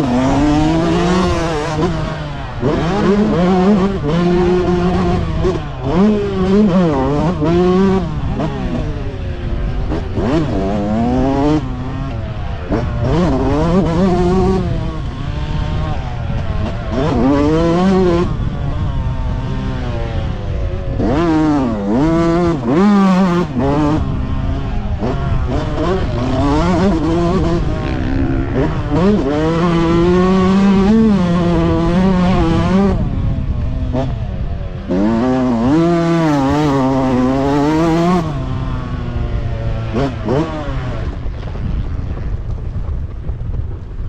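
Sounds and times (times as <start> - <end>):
motocross engines revving: 0.0 - 41.5.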